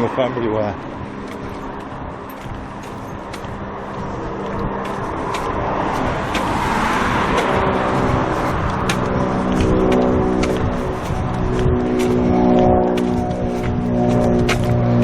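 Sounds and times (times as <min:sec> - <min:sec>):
car passing: 0:00.0 - 0:15.0
steady engine hum: 0:00.0 - 0:15.0.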